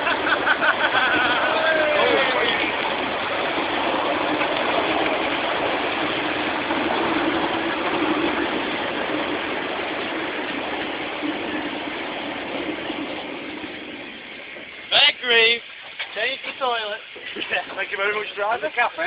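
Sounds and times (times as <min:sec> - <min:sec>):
miniature train running: 0:00.0 - 0:19.0.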